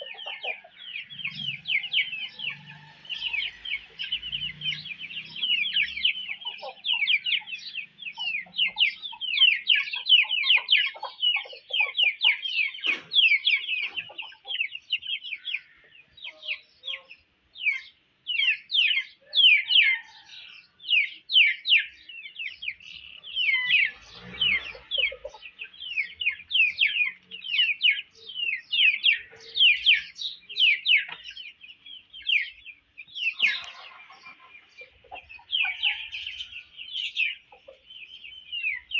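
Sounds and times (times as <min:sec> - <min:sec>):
high-pitched bird chirping: 0:00.0 - 0:20.0, 0:20.8 - 0:38.9.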